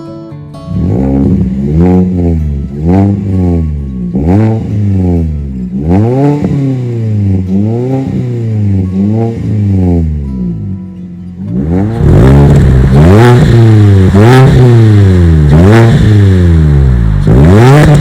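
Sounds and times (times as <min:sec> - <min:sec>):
car engine revving: 0:00.7 - 0:18.0.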